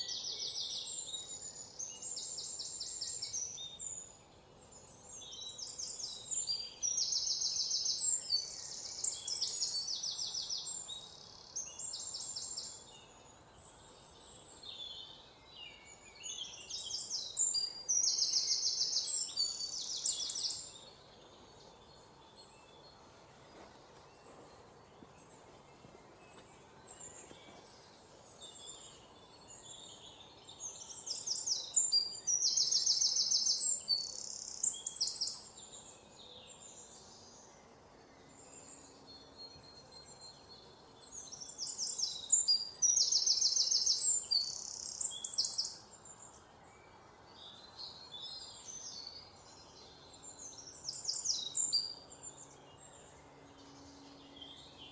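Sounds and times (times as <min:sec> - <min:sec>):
faint bird chirps: 0:00.0 - 0:54.9
outdoor background noise: 0:00.0 - 0:54.9
songbirds trilling: 0:00.0 - 0:54.9.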